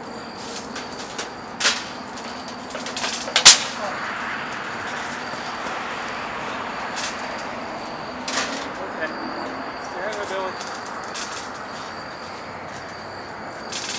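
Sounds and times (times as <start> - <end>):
steady hiss: 0.0 - 13.9.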